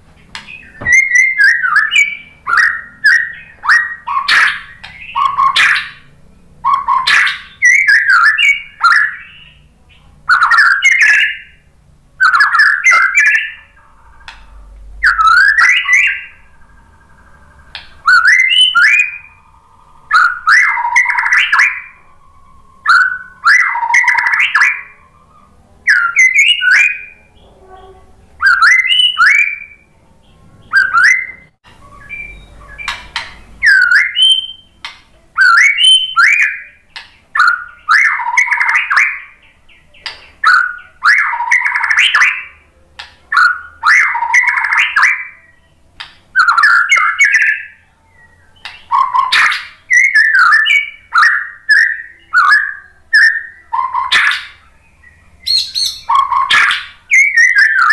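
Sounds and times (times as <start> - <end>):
songbird singing whistles and chatters: 0.2 - 57.9.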